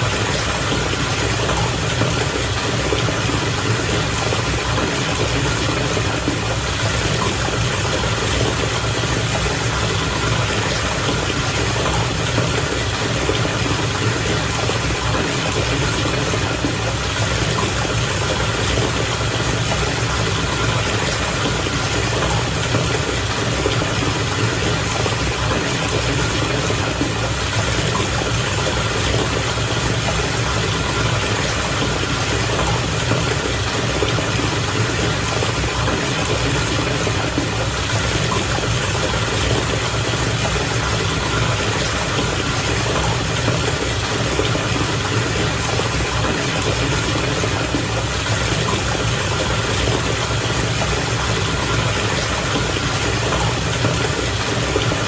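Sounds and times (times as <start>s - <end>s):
bath water bubbling: 0.0s - 55.0s.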